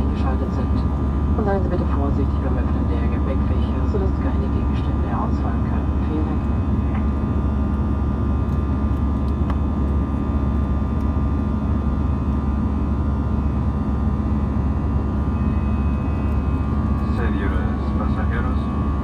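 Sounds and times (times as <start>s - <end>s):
faint engine whine: 0.0s - 19.0s
jet engine cabin rumble: 0.0s - 19.0s.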